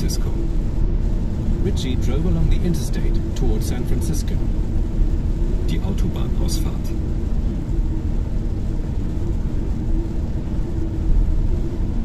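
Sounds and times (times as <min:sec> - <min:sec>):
faint steady hum: 0:00.0 - 0:12.0
tyres and engine rumbling: 0:00.0 - 0:12.0.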